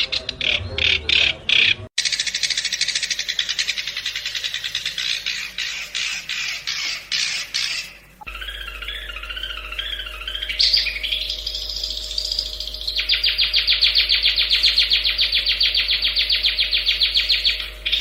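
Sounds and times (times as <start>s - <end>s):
bird singing sharp repeated notes: 0.0s - 18.0s.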